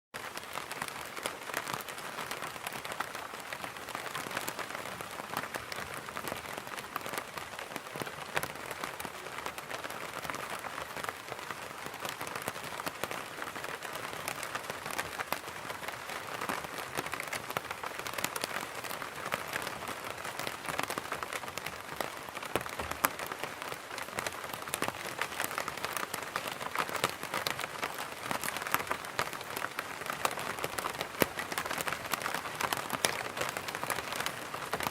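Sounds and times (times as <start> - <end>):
rain pattering on umbrella: 0.2 - 34.9.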